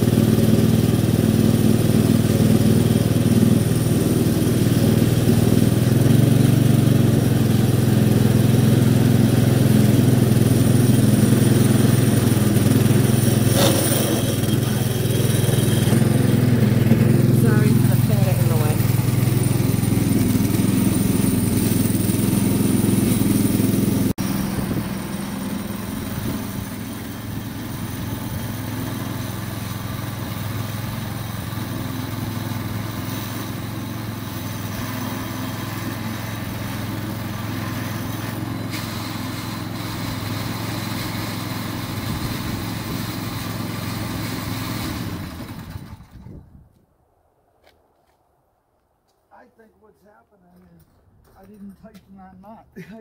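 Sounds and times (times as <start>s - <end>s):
snowblower engine running: 0.0s - 46.5s.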